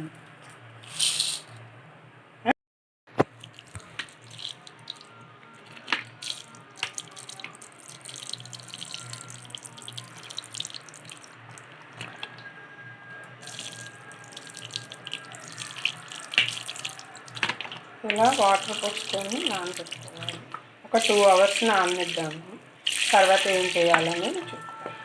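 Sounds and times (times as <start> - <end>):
water pouring into a bowl: 3.2 - 12.5, 13.4 - 24.8.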